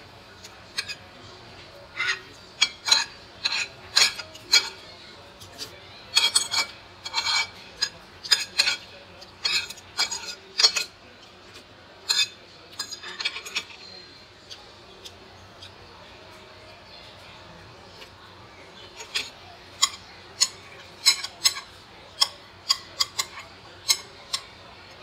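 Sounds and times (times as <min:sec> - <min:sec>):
cutlery scraping a ceramic plate: 0:00.3 - 0:01.1, 0:01.9 - 0:16.8, 0:18.8 - 0:25.0.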